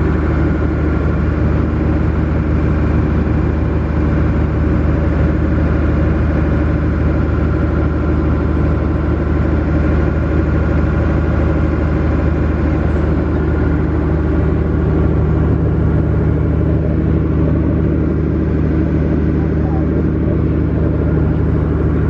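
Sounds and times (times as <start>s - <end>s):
ferry engine drone: 0.0s - 22.0s.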